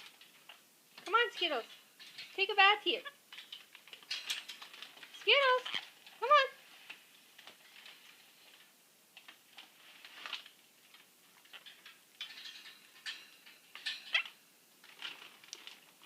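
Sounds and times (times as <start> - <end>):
parrots clicking and scratching: 0.0 - 16.0.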